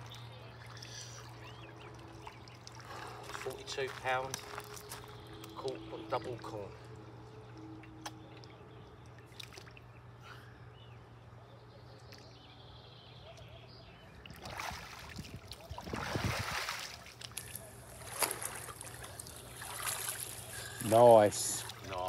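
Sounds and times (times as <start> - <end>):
water splashing and sloshing: 0.0 - 10.4, 14.1 - 22.0
lake water lapping: 0.0 - 10.9, 14.1 - 22.0.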